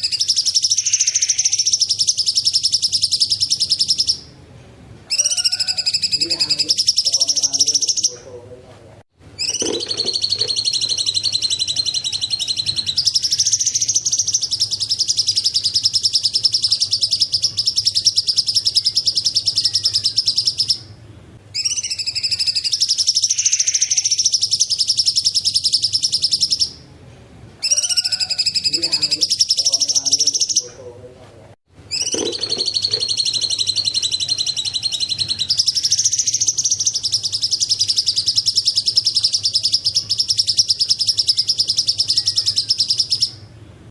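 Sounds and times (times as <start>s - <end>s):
bird singing trilled phrases: 0.0s - 4.3s, 5.1s - 8.3s, 9.4s - 26.8s, 27.6s - 30.8s, 31.9s - 43.5s.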